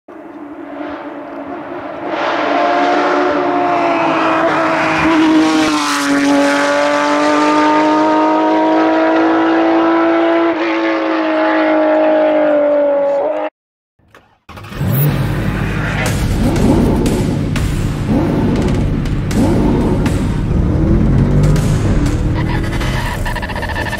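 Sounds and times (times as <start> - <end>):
rally car engine at high revs: 0.1 - 13.5, 14.5 - 23.9.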